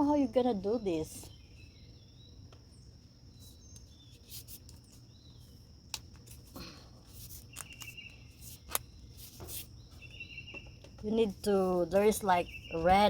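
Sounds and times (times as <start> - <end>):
crickets trilling: 0.0 - 13.0
bird chirps: 0.7 - 5.6, 7.4 - 13.0.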